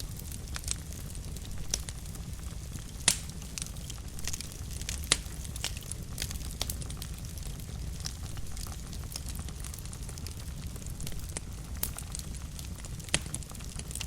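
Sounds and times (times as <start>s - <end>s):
fire crackling: 0.0s - 14.0s
sharp fire pops: 0.0s - 14.0s.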